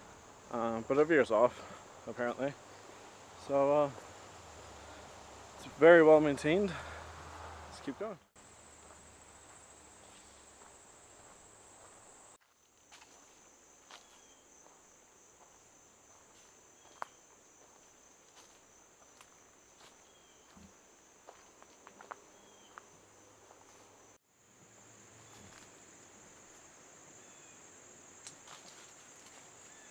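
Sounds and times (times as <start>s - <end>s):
crickets droning: 0.0s - 29.9s
soft footsteps on a trail: 0.9s - 24.2s, 25.2s - 26.8s, 28.2s - 29.9s.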